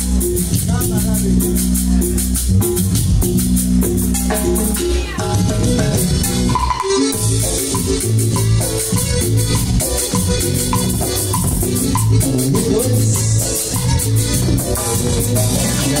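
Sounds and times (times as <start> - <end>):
drums: 0.0 - 16.0
live band playing dance music: 0.0 - 16.0.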